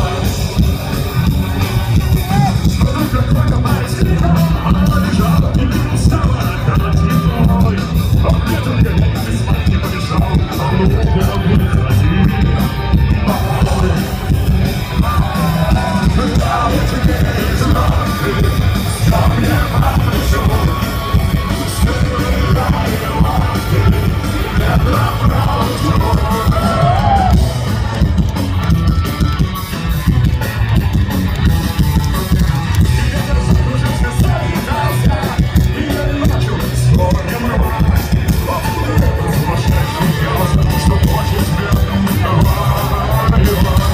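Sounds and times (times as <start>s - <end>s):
person singing: 0.0s - 28.3s, 32.4s - 43.9s
live rock band playing: 0.0s - 43.9s.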